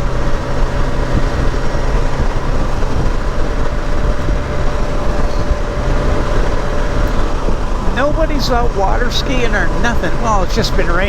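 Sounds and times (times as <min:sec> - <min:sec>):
motor trike engine running: 0:00.0 - 0:11.0
road and wind noise: 0:00.0 - 0:11.0.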